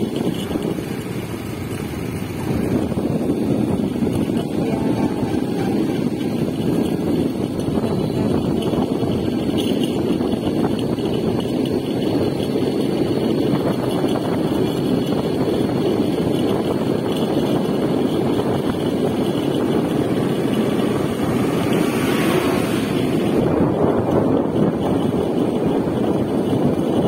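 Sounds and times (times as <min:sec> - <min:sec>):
motorcycle engine: 0:00.0 - 0:27.0
road noise: 0:00.0 - 0:27.0
wind rushing over microphone: 0:00.0 - 0:27.0.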